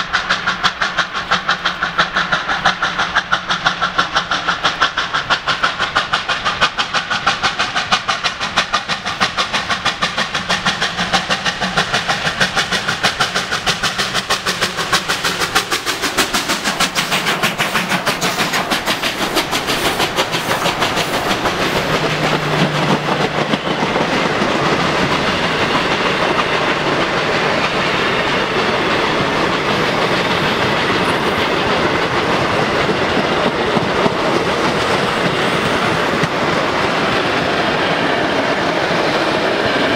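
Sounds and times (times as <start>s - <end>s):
steam locomotive exhaust beats: 0.0s - 39.9s.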